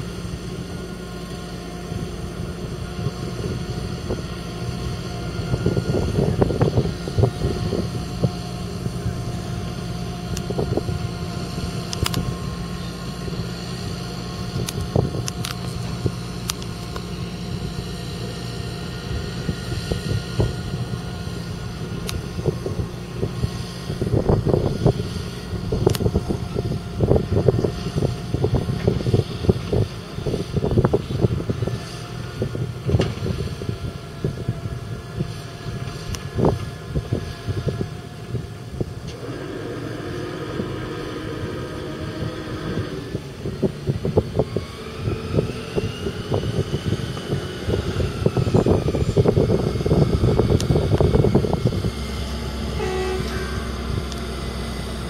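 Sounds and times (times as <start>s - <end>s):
tractor diesel engine under load: 0.0s - 55.0s
wind buffeting microphone: 0.0s - 55.0s.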